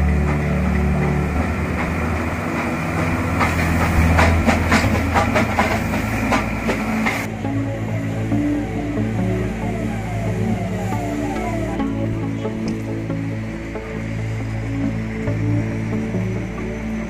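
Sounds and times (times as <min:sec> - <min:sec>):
steam train rumbling: 0:00.0 - 0:17.0.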